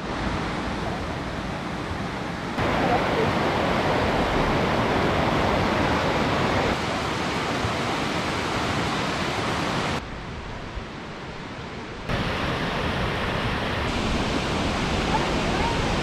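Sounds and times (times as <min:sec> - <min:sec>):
waterfall rushing: 0:00.0 - 0:10.0, 0:12.1 - 0:16.0.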